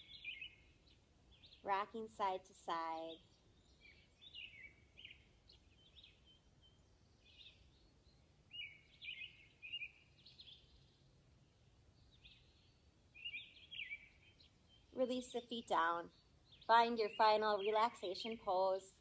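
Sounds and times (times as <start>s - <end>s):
faint background hiss: 0.0s - 19.0s
small songbirds chirping: 0.0s - 19.0s.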